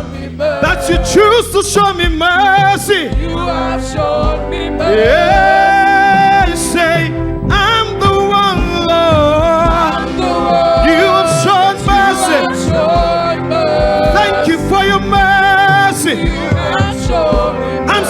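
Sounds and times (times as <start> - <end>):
gospel choir singing: 0.0 - 18.0.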